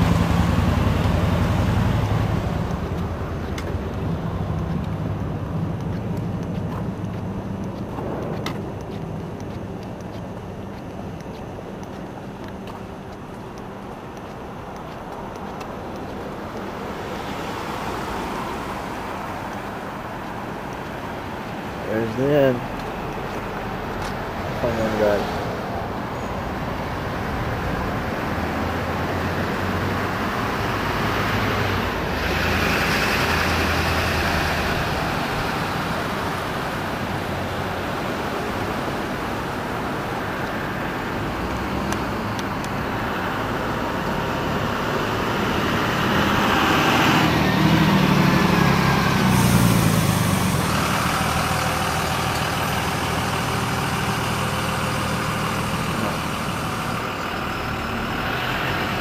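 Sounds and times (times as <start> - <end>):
heavy vehicle engine passing: 0.0 - 9.8, 16.3 - 59.0
road traffic driving past: 0.0 - 59.0.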